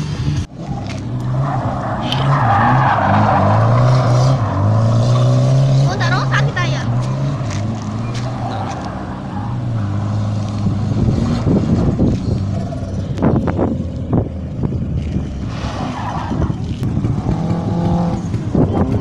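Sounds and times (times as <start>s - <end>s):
car engine revving: 0.0s - 19.0s
tyres skidding on tarmac: 0.0s - 19.0s.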